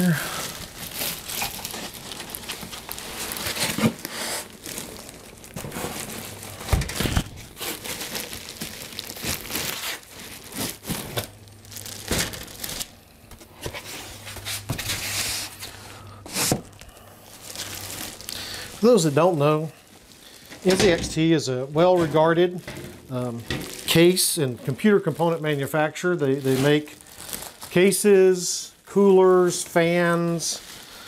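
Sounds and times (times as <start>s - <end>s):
plastic bag crinkling: 0.0s - 31.0s.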